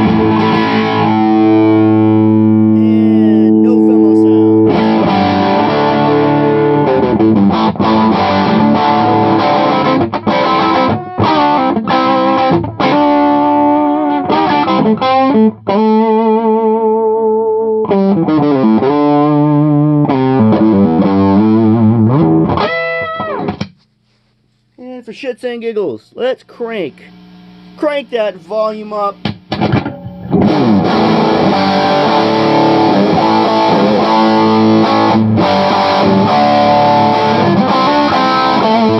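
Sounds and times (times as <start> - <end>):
distorted electric guitar: 0.0 - 23.8, 26.9 - 38.9.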